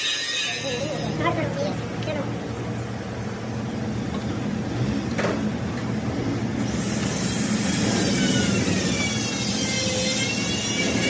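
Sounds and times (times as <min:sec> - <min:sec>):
workshop machinery hum: 0:00.0 - 0:11.0.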